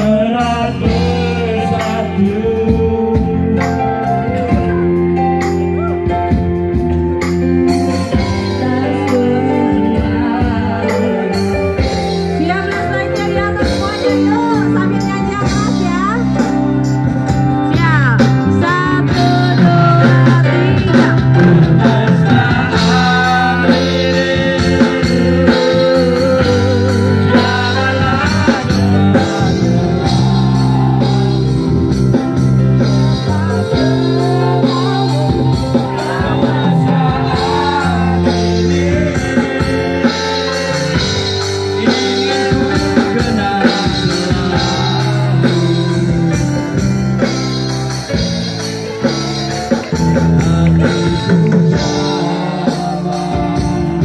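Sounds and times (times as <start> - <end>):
people singing into microphones: 0.0 - 6.2, 7.2 - 16.2, 16.8 - 54.0.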